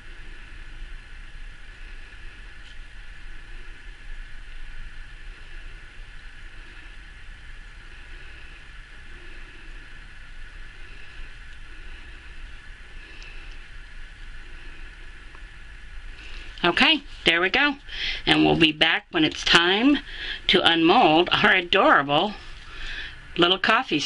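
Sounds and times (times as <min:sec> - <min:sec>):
room hum and hiss: 0:00.0 - 0:24.0.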